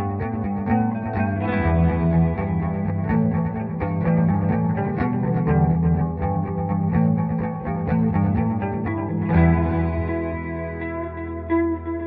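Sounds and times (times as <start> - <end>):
instrumental music with guitar: 0.0 - 12.0.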